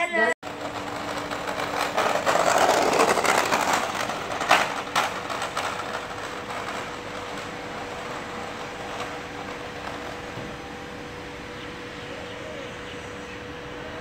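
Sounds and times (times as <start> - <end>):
scooter rolling on asphalt: 0.0 - 14.0.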